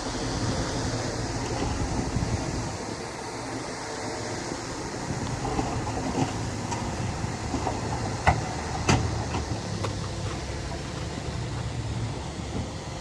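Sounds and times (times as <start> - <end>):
diesel engine running: 0.0 - 13.0
steel tracks clanking: 0.0 - 13.0.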